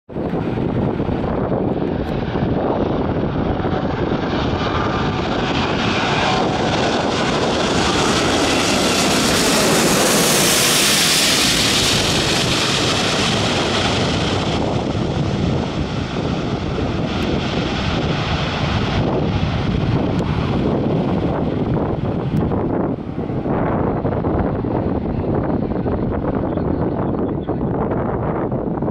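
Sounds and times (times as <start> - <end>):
jet airliner passing overhead: 0.1 - 28.9.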